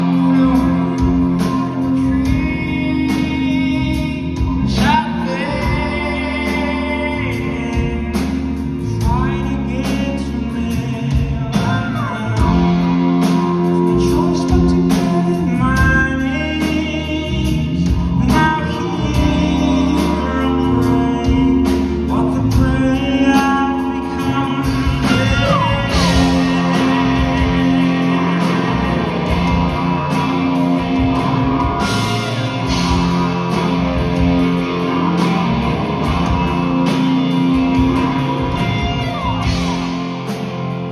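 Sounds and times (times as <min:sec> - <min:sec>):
man singing lead vocal: 0:00.0 - 0:39.8
live rock band playing: 0:00.0 - 0:40.9.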